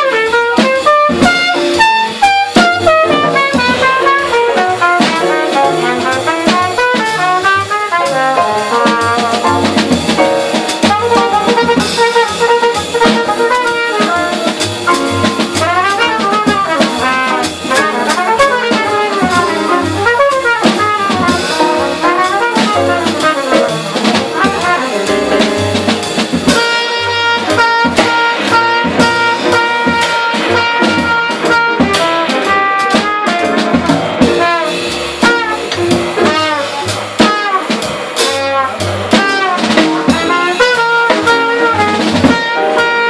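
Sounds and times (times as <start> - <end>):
cornet solo: 0.0 - 25.9, 26.5 - 43.0
drum kit with ride cymbal: 0.0 - 43.0
walking upright bass: 0.0 - 43.0.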